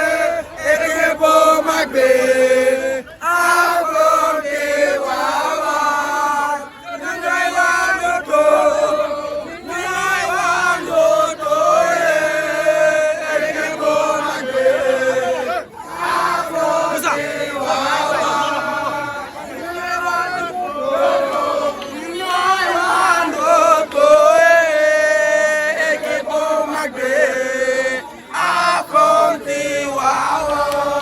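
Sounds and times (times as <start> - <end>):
group of men chanting and singing: 0.0 - 31.0.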